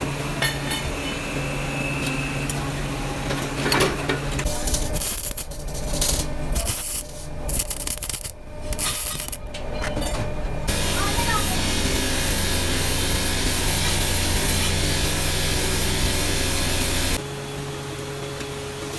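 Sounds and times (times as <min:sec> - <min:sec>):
workshop machine hum: 0:00.0 - 0:18.9.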